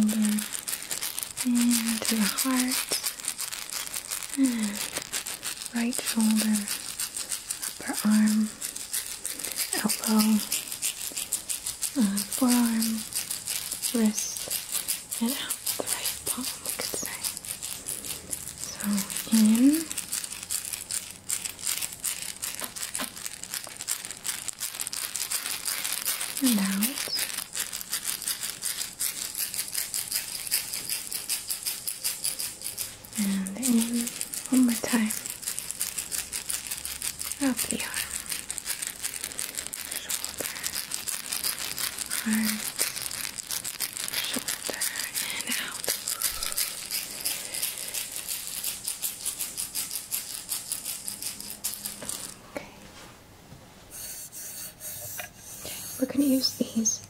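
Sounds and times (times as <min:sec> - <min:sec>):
handheld rattle shaking: 0:00.0 - 0:52.4, 0:53.9 - 0:57.0.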